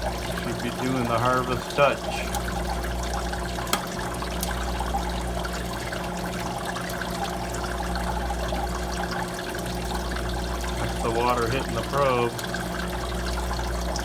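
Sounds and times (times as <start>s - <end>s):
ice machine low hum: 0.0s - 14.0s
water trickling and splashing: 0.0s - 14.0s.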